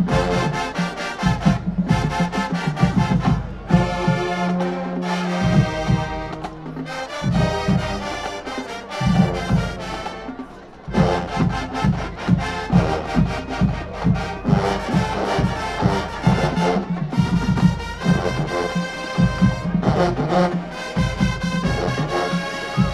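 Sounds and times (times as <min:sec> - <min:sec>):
heavy steady drum beat: 0:00.0 - 0:22.9
marching band brass: 0:00.0 - 0:22.9.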